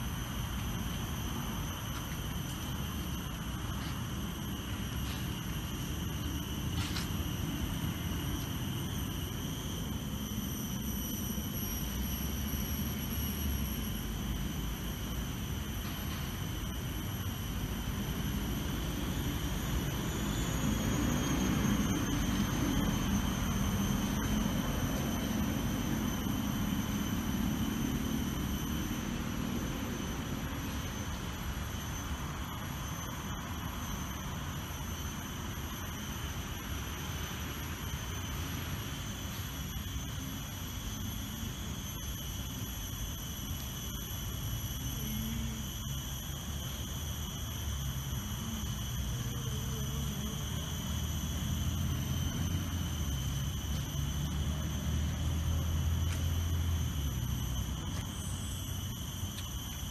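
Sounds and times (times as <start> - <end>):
outdoor background rumble: 0.0 - 59.9.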